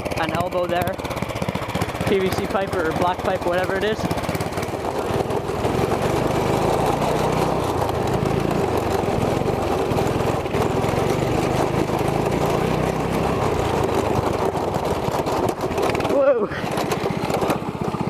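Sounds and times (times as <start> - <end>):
go-kart engine running: 0.0 - 18.0.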